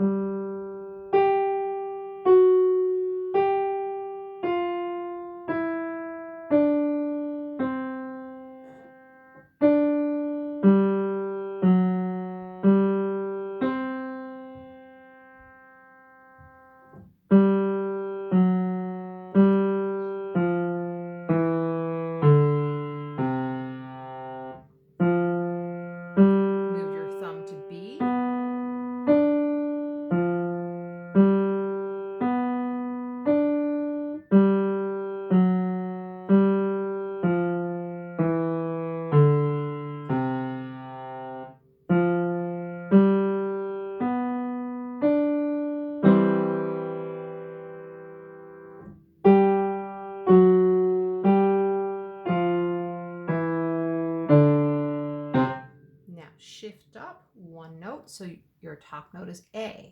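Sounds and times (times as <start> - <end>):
piano chords: 0.0 - 56.3.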